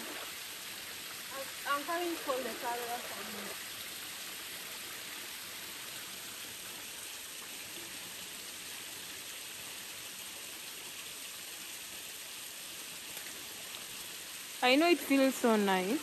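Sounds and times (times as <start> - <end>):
shallow river water running: 0.0 - 16.0.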